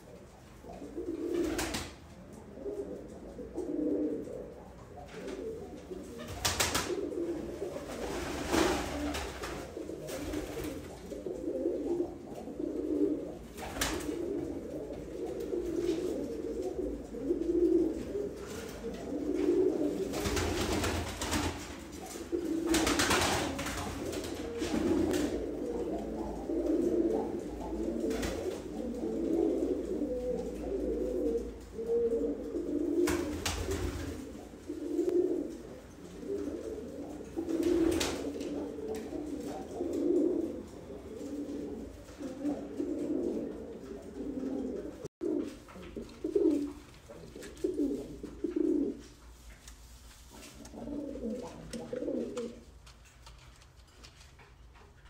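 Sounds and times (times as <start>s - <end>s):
pigeons cooing: 0.0s - 52.8s.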